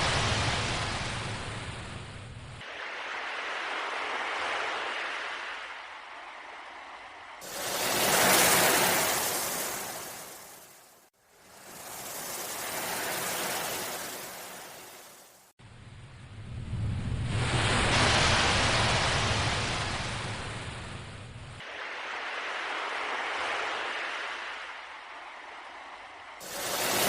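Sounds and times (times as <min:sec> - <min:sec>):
sea waves washing in: 0:00.0 - 0:15.6, 0:16.4 - 0:27.0.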